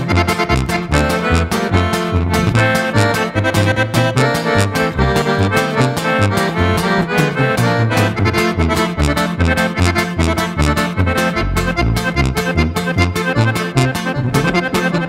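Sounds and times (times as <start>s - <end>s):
accordion melody: 0.0s - 15.0s
guitar strumming: 0.0s - 15.0s
tuba and upright bass line: 0.0s - 15.0s.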